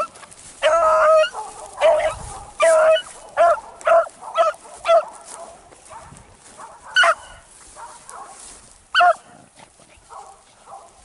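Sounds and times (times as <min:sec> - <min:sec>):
dog barking: 0:00.0 - 0:09.4, 0:10.1 - 0:11.0.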